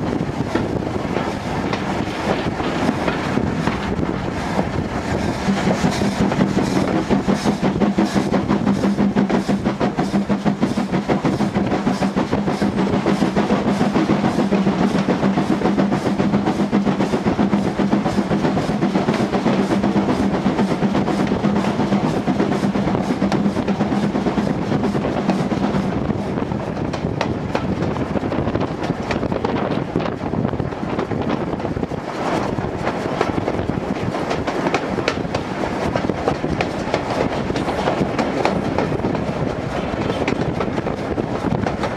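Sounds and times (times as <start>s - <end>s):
steam locomotive chuffing: 0.0s - 41.9s.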